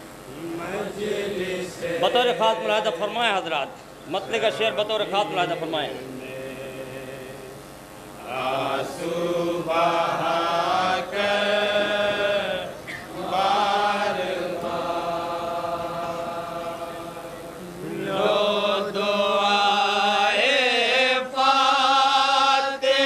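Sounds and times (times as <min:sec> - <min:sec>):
men chanting a lament: 0:00.3 - 0:07.6, 0:08.2 - 0:23.0.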